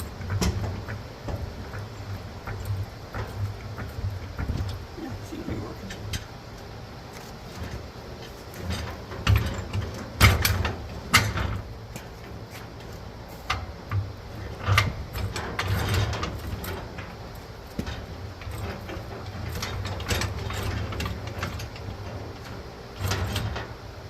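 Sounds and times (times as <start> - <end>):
metal clanks and knocks: 0.0 - 6.3, 8.6 - 23.8
steady low hum: 0.0 - 24.0.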